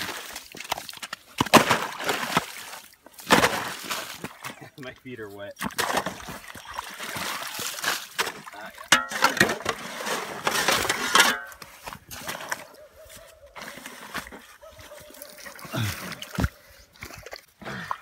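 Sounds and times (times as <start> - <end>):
ice slush crunching and sloshing: 0.0 - 18.0.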